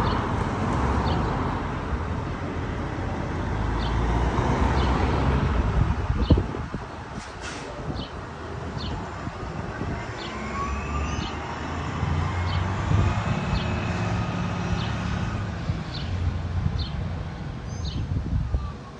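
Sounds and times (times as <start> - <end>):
traffic drone: 0.0 - 18.9.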